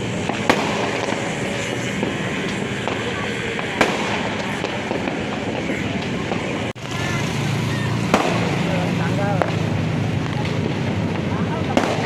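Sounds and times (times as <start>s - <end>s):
fireworks crackling: 0.0s - 12.0s
sharp firework bangs: 0.0s - 12.0s.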